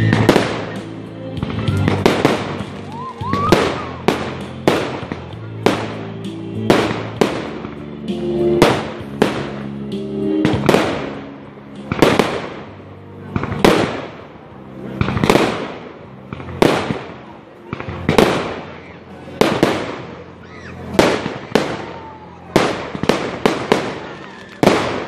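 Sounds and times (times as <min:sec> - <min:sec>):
fireworks bangs: 0:00.0 - 0:25.0
music with sustained notes: 0:00.0 - 0:25.0.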